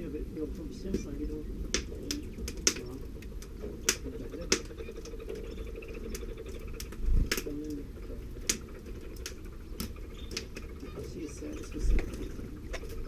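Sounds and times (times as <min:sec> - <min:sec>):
light scratching: 0:00.8 - 0:13.0
sharp irregular clicks: 0:01.7 - 0:13.0.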